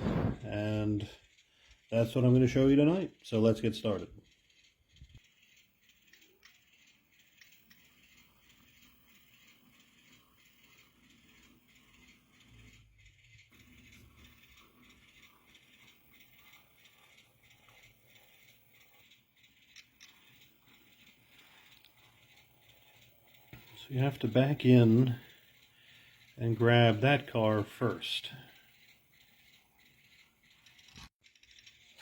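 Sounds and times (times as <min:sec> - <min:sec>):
model locomotive whirring: 0:00.0 - 0:32.0.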